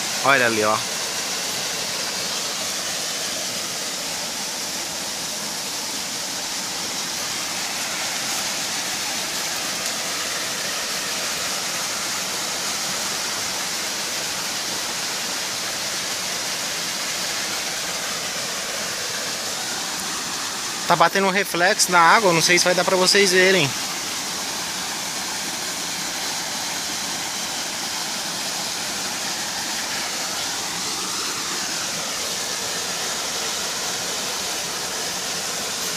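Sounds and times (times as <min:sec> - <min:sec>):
small waterfall pouring into pool: 0:00.0 - 0:35.9.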